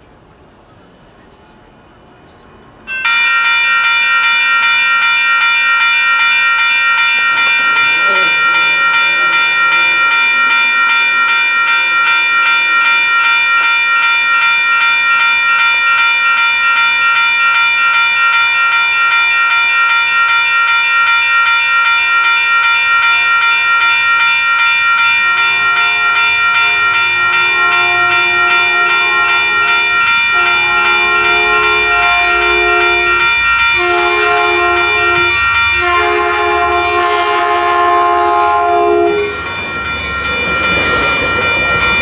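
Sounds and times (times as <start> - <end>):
low train tone: 0.0 - 42.0
crossing warning bell ringing: 2.8 - 42.0.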